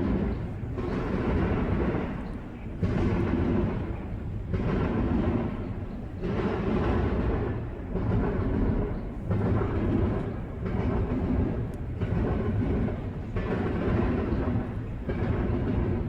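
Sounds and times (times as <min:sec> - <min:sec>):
freight train cars rolling past: 0:00.0 - 0:16.0.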